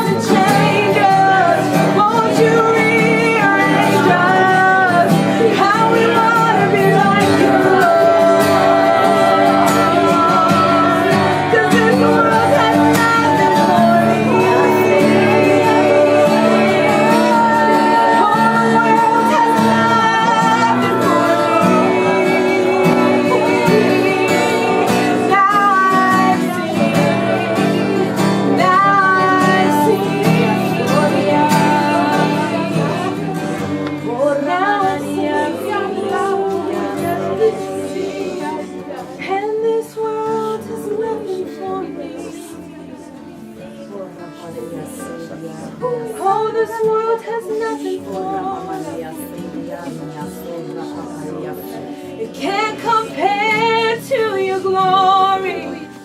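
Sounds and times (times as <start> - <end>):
worship music with singing: 0.0 - 56.0.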